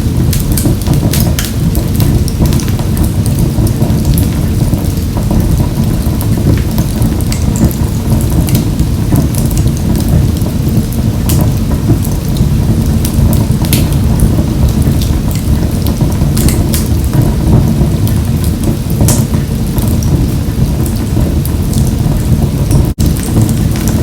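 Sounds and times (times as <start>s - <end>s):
fire crackling and popping: 0.0s - 24.0s
flames rumbling: 0.0s - 24.0s.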